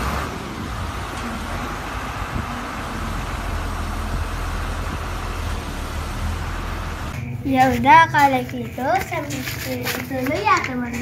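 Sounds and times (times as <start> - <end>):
diesel truck engine rumbling: 0.0 - 11.0
road noise: 0.0 - 11.0.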